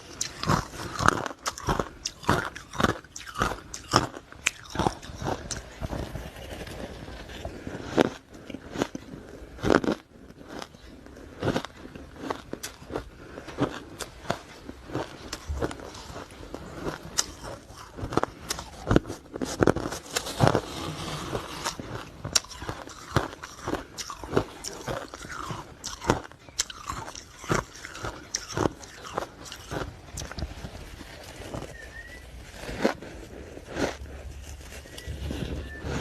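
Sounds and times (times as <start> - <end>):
ice cubes being chewed: 0.0 - 33.0.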